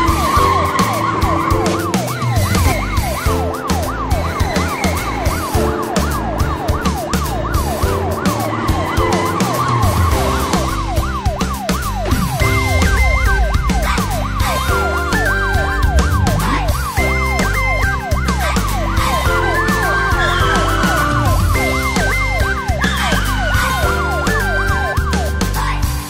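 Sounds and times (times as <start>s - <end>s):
cartoon police siren: 0.0s - 25.9s
background music with beat: 0.0s - 26.0s.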